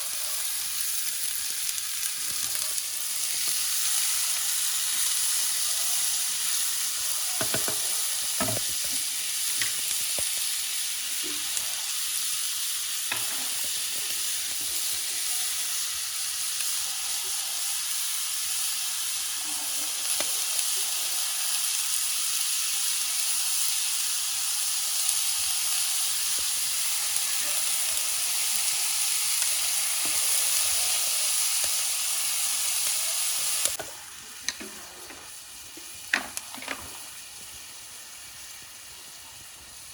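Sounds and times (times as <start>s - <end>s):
flatbread sizzling in hot oil: 0.0s - 39.9s.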